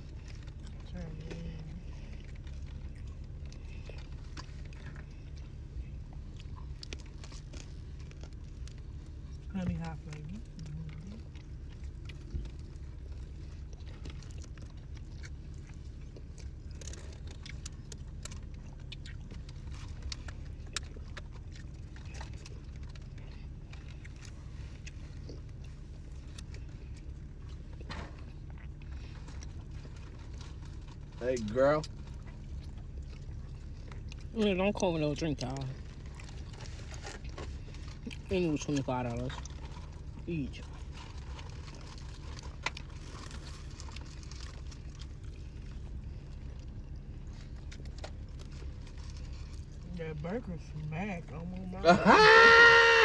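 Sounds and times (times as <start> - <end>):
person chewing food: 0.0 - 49.8
steady low rumble: 0.0 - 52.2
low engine hum: 0.0 - 53.0.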